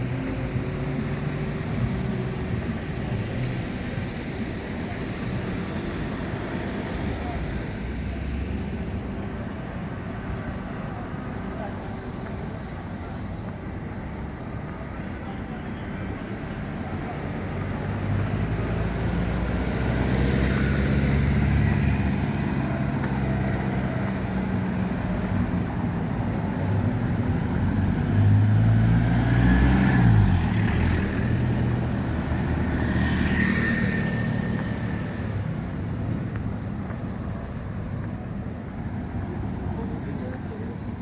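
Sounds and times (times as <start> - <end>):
road traffic: 0.0 - 41.0.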